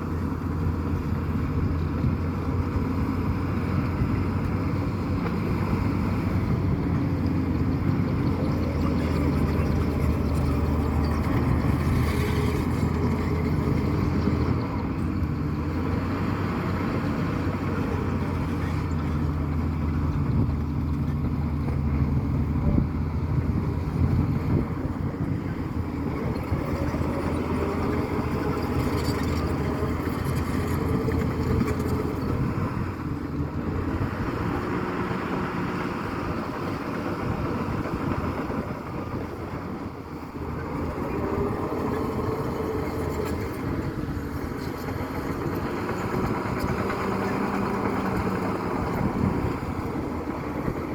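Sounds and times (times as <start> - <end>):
diesel engine running under load: 0.0 - 50.9.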